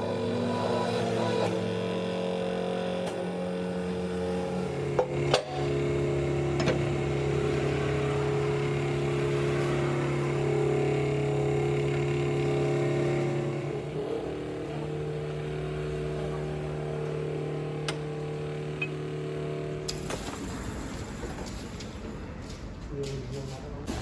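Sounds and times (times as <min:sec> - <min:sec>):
motor humming: 0:00.0 - 0:22.8.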